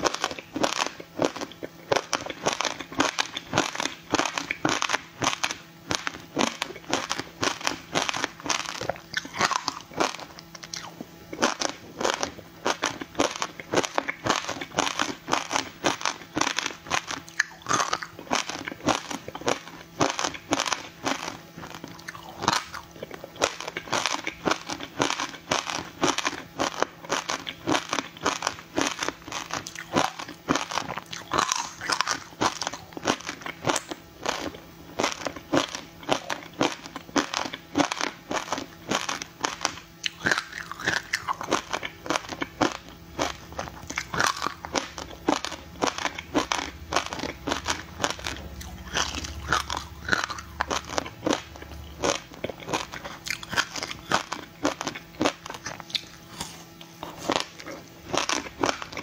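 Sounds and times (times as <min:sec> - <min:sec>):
crunching frozen ice: 0:00.0 - 0:59.0.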